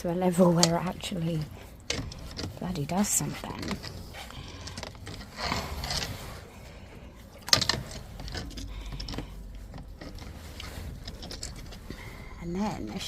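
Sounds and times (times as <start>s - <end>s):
drain rods scraping and clattering: 0.0s - 13.0s.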